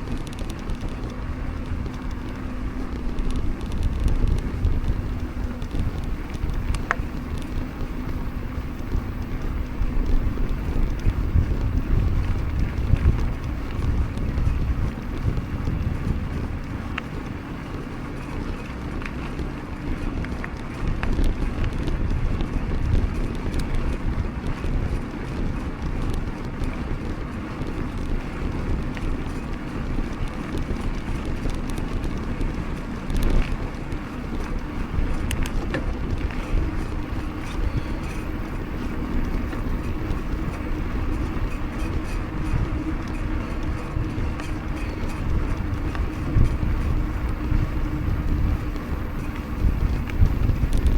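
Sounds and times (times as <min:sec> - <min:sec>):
bike tyres rolling on pavement: 0:00.0 - 0:50.9
small clicks and rattles: 0:00.0 - 0:50.9
wind buffeting microphone: 0:00.0 - 0:50.9.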